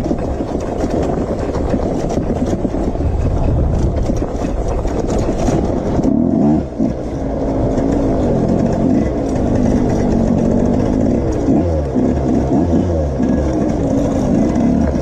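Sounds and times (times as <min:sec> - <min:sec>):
vehicle engine running hard: 0:00.0 - 0:15.0.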